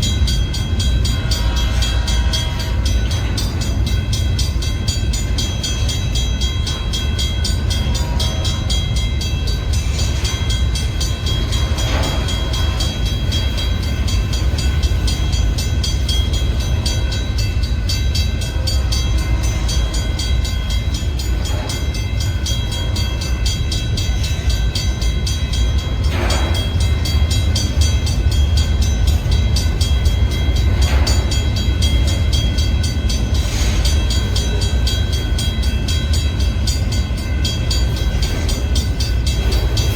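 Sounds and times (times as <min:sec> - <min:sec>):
freight train rumbling past: 0:00.0 - 0:39.9
train cars clanking: 0:00.0 - 0:39.9.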